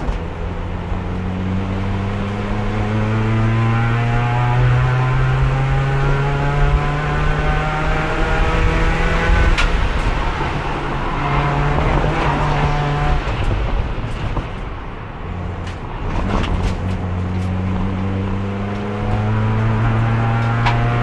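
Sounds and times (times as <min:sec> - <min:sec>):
race car engine under load: 0:00.0 - 0:21.0.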